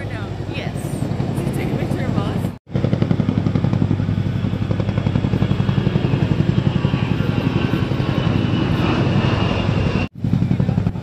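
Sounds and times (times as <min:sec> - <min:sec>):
helicopter rotors thumping: 0:00.0 - 0:11.0
jet engine whine: 0:00.0 - 0:11.0.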